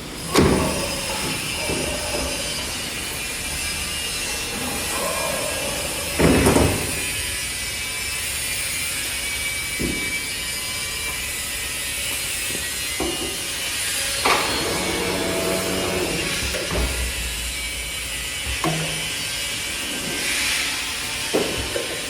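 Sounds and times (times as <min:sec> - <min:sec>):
loud mechanical bursts: 0:00.0 - 0:10.9, 0:13.9 - 0:21.0
cnc router running: 0:00.0 - 0:22.0.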